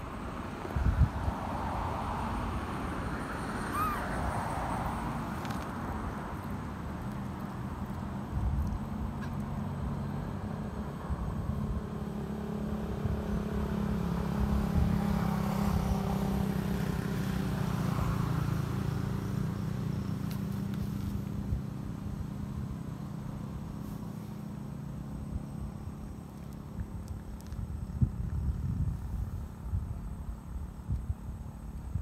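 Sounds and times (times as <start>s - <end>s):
motor vehicle passing by: 0.0s - 30.7s.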